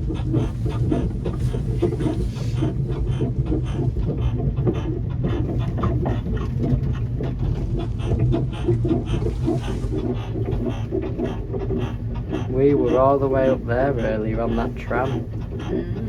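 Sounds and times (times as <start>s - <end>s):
train clatter and rattle: 0.0s - 16.0s.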